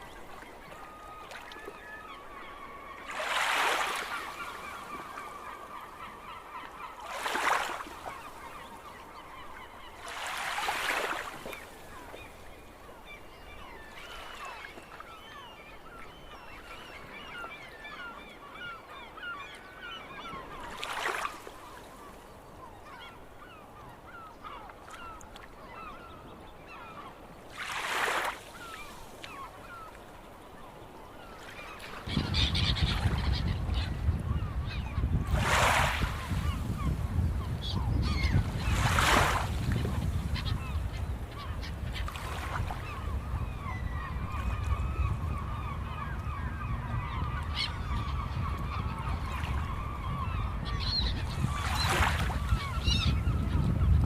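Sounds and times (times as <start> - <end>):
seagulls calling: 0.0 - 54.0.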